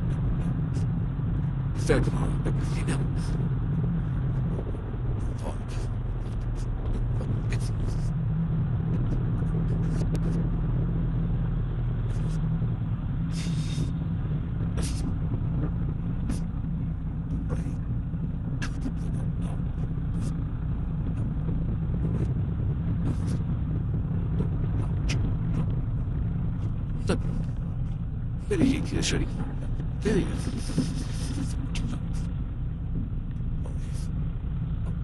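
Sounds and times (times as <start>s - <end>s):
car rumble while driving: 0.0s - 35.0s.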